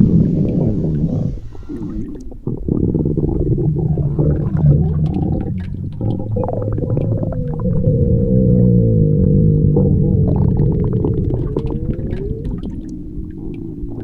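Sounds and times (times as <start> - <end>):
stomach growling: 0.0 - 14.0.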